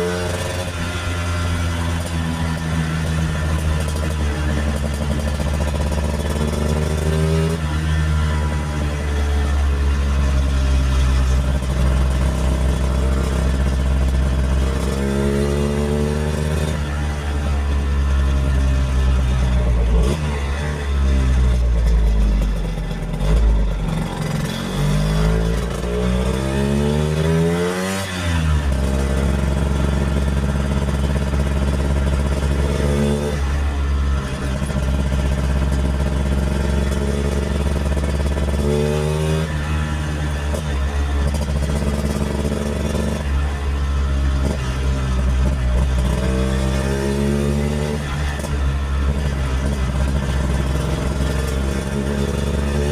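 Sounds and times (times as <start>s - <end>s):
scooter engine revving: 0.0s - 52.9s.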